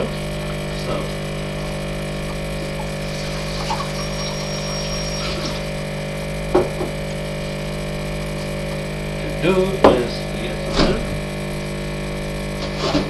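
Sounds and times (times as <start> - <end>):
coffee machine pump buzzing: 0.0 - 13.0.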